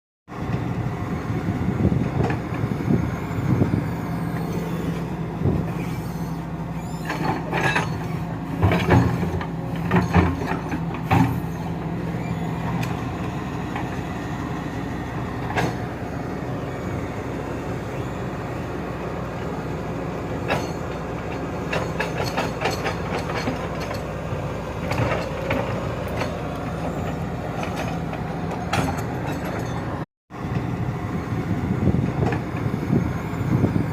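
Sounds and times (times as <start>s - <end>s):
diesel engine running: 0.3s - 33.9s.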